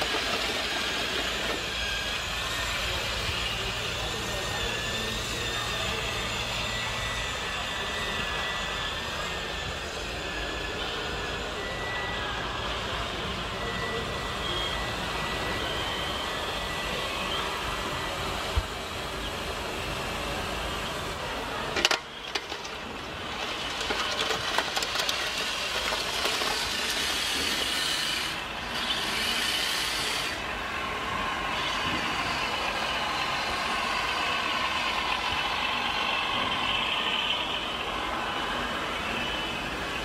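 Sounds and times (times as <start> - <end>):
small electric motors and gearboxes: 0.0 - 40.0.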